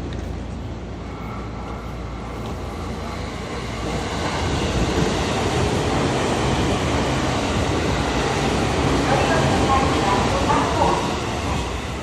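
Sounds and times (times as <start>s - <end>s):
electric train rumbling past: 0.0s - 12.0s.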